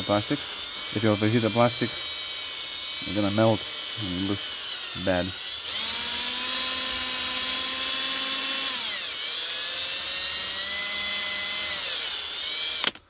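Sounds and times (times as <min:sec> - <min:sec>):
electric drill motor whine: 0:00.0 - 0:13.0.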